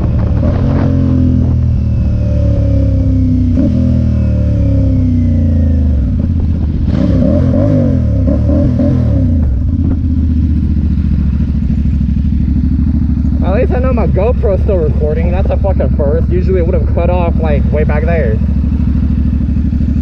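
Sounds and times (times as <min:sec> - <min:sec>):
motorcycle engine slowing: 0:00.0 - 0:20.0.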